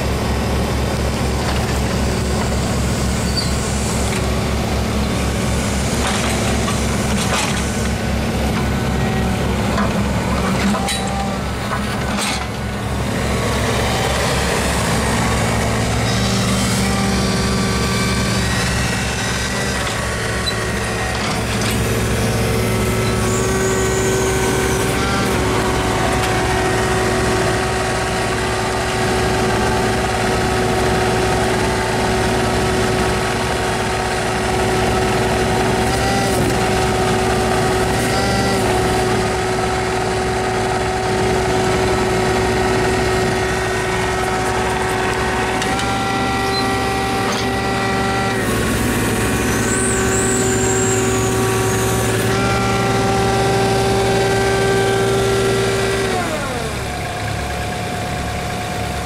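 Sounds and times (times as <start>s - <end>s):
hydraulic whine: 0.0s - 59.0s
mini excavator running: 0.0s - 59.0s.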